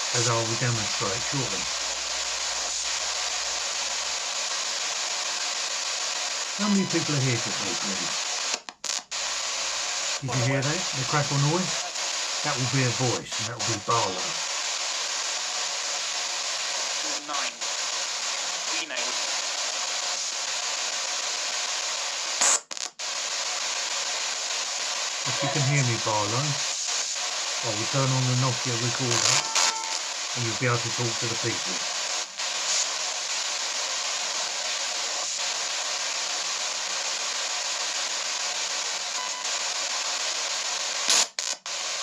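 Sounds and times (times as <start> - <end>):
radio static hiss: 0.0 - 42.0
static crackle: 0.0 - 42.0.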